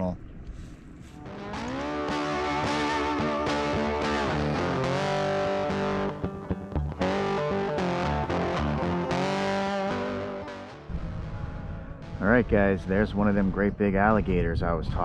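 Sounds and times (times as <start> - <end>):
distorted electric guitar: 1.2 - 14.6
bass line: 1.2 - 15.0.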